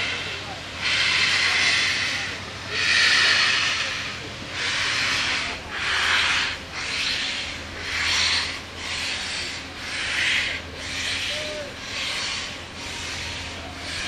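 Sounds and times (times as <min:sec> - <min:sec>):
steam hissing bursts: 0:00.0 - 0:14.0
steam locomotive chuffing: 0:00.0 - 0:14.0.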